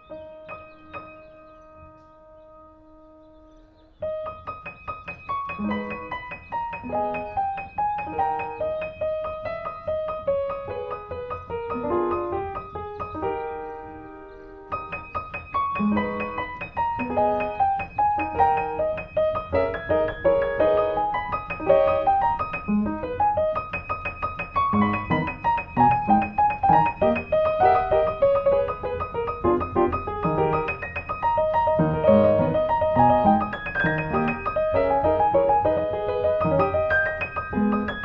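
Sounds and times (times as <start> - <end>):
piano melody: 0.0 - 38.0.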